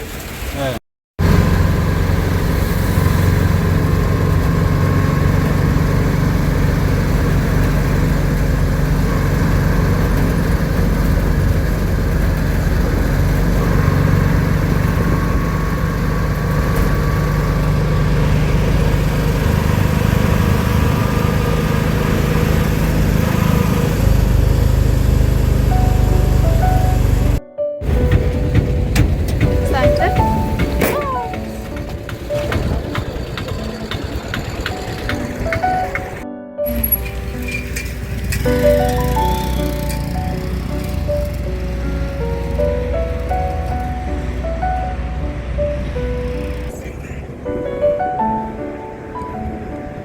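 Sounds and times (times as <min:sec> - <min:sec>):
vehicle engine droning: 0:00.0 - 0:47.4.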